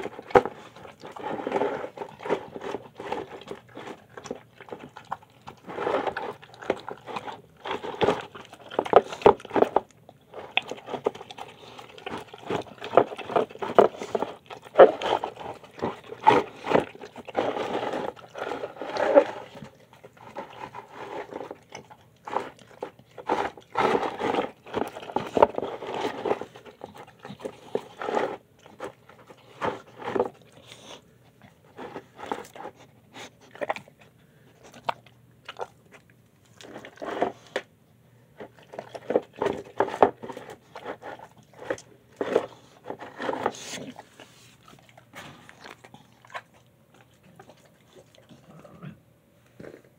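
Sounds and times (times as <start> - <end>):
dog chewing wet food: 0.0 - 49.9.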